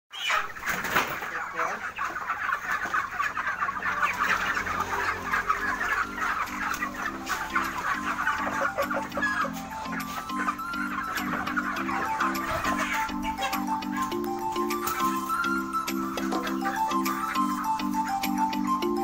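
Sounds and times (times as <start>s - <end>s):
chickens clucking: 0.1s - 19.0s
background music: 1.9s - 19.0s.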